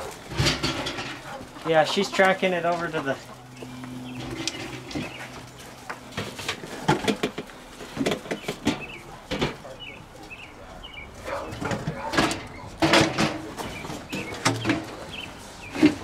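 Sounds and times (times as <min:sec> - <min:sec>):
metal trash cans clattering: 0:00.0 - 0:03.4, 0:04.0 - 0:16.0.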